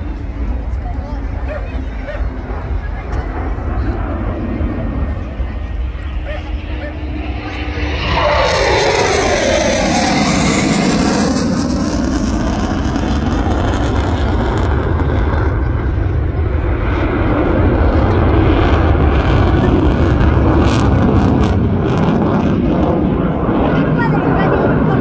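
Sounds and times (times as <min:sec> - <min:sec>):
jet engines roaring on afterburner: 0:00.0 - 0:25.0.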